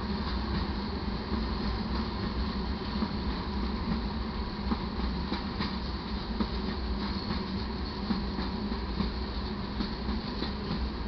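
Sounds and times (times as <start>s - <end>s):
steel wheels rumbling on rail: 0.0s - 11.0s.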